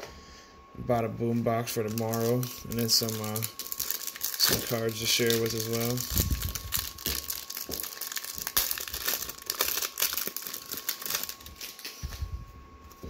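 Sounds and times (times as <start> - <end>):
plastic wrapper crinkling and tearing: 1.7 - 12.2.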